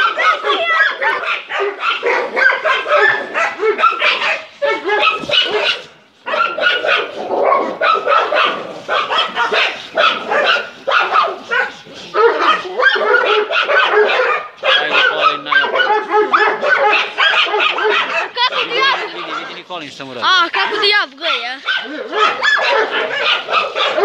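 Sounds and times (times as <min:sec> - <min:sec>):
dog barking rapidly: 0:00.0 - 0:19.8, 0:20.5 - 0:24.0.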